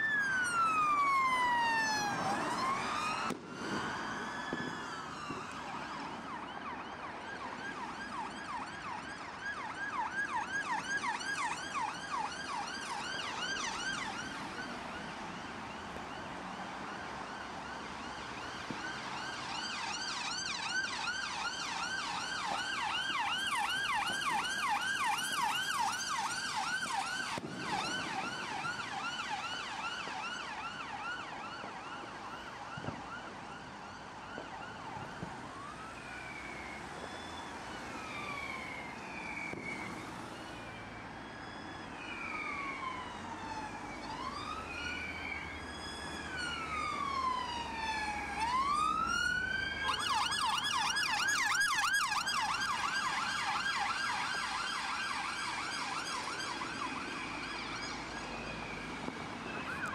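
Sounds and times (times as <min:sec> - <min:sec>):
emergency sirens yelping: 0:00.0 - 0:59.9.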